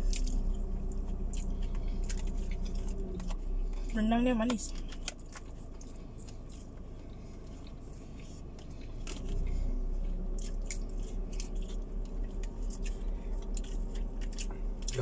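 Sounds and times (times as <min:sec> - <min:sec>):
chewing and biting food: 0:00.0 - 0:15.0
low steady hum: 0:00.0 - 0:15.0.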